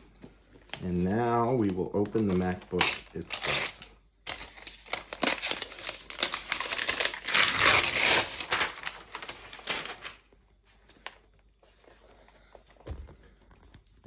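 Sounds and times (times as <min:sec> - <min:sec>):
wrapping crinkling and rustling: 0:00.0 - 0:14.0.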